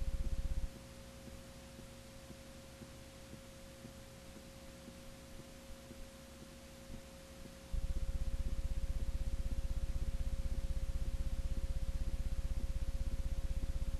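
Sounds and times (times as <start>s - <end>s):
faint low hum: 0.0s - 13.9s
tape hiss: 0.0s - 13.9s.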